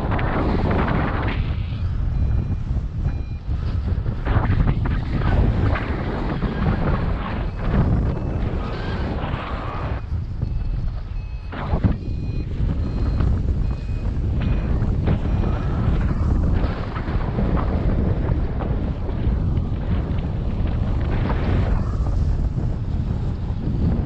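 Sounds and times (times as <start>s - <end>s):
variometer beeping: 0.0s - 19.3s
wind rushing over microphone: 0.0s - 24.0s.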